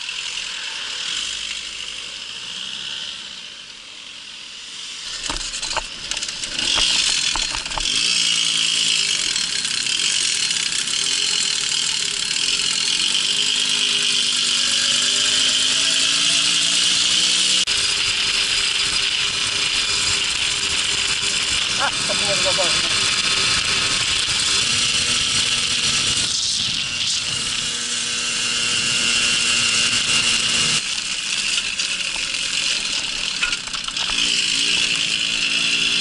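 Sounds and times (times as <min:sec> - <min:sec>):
moped engine running: 0:00.0 - 0:36.0.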